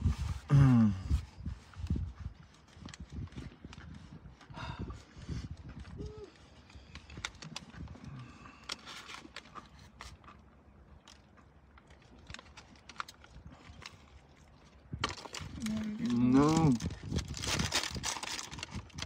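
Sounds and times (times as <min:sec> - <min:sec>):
person chewing food: 0:01.8 - 0:17.2.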